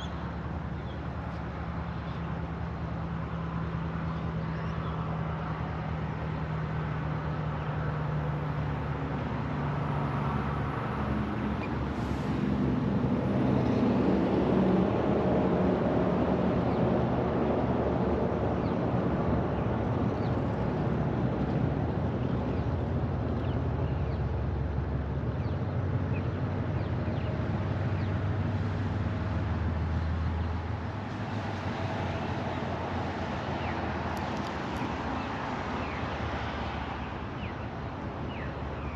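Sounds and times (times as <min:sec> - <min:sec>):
locomotive engine drone: 0:00.0 - 0:38.9.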